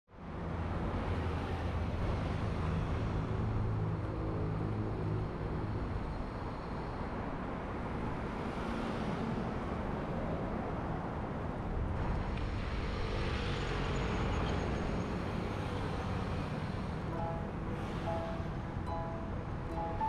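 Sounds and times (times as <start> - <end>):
city road traffic: 0.1 - 20.0.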